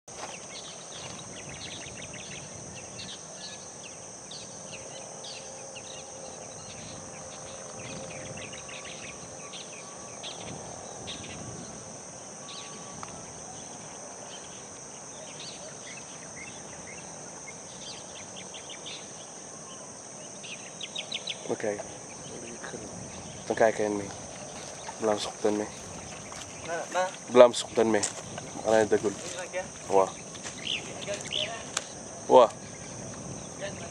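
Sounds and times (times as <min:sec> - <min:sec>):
high-pitched insect drone: 0:00.1 - 0:33.9
short insect chirps: 0:00.1 - 0:33.9.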